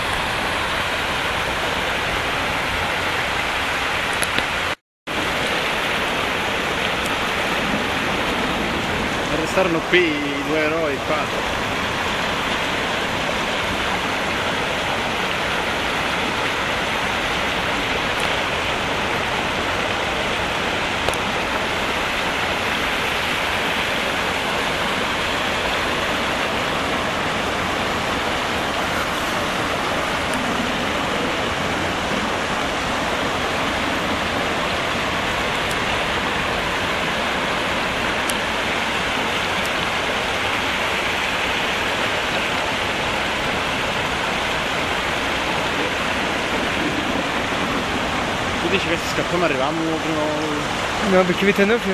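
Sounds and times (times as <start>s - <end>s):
water rushing down a road: 0.0s - 51.9s.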